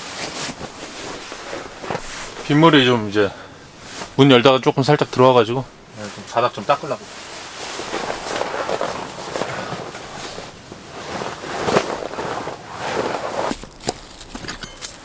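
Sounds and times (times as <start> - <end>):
towel scrubbing plastic sheet: 0.0 - 14.3.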